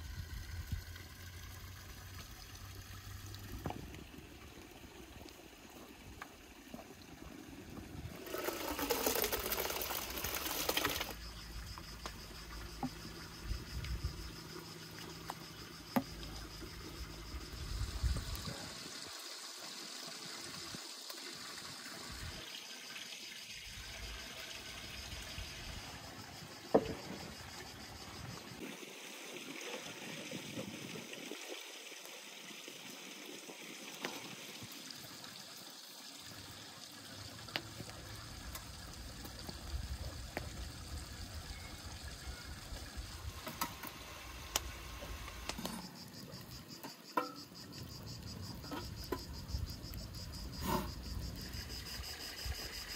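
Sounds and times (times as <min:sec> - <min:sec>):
liquid pouring and trickling: 0:00.0 - 0:46.6
crickets chirping: 0:00.0 - 0:52.9.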